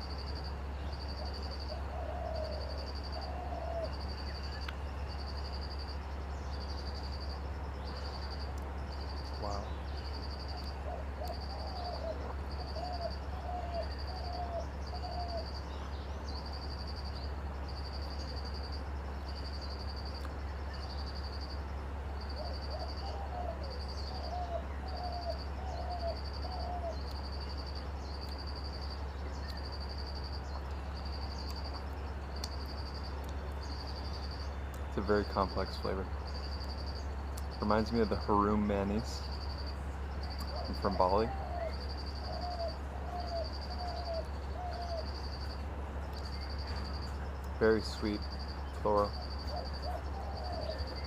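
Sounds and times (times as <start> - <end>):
bird calling: 0.0 - 21.5, 22.1 - 51.0
cricket chirping: 0.0 - 51.0
steady low hum: 0.0 - 51.0.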